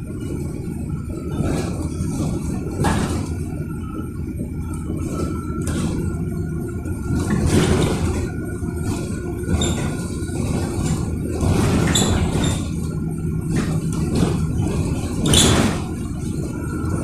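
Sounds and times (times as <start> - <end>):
low rumble of tyres and road: 0.0 - 17.0
rattles and knocks: 1.1 - 3.6, 4.7 - 17.0.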